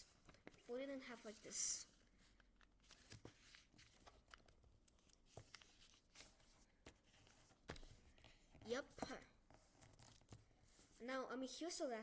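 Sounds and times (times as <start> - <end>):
paper being folded and creased: 0.2 - 11.0.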